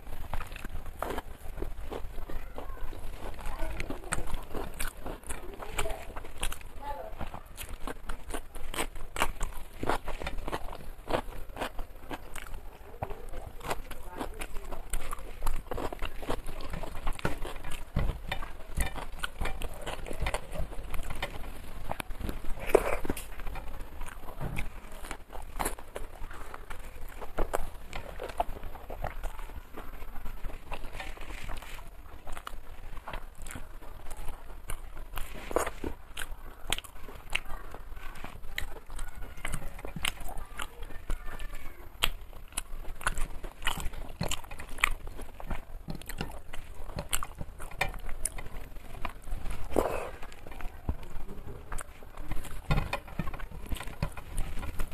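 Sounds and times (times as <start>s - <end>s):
chewing and wet mouth noises: 0.0s - 54.9s.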